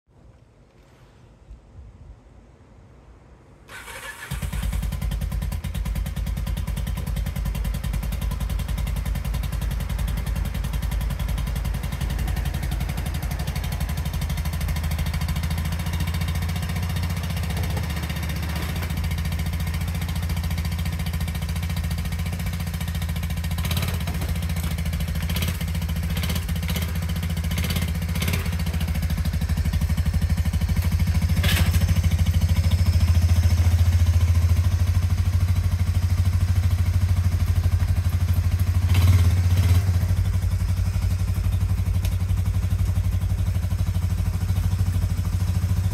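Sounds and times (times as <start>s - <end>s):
atv engine starting and running: 3.7s - 45.9s.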